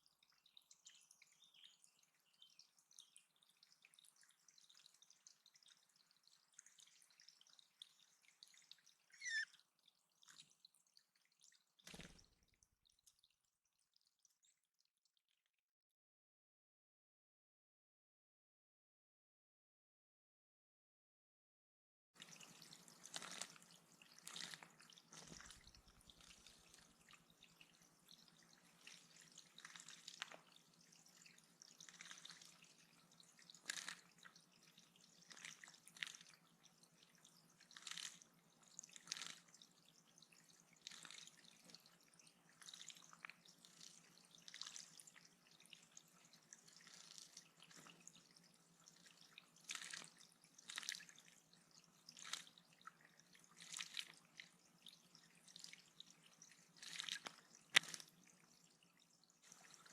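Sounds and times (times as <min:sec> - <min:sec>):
water drips: 0:00.0 - 0:15.4, 0:22.2 - 0:59.9
faint water trickle: 0:00.0 - 0:15.7, 0:22.2 - 0:59.9.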